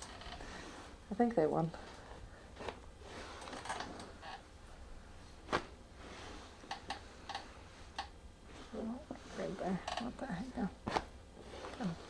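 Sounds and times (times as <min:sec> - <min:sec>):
soft rustling and handling: 0:00.0 - 0:12.0.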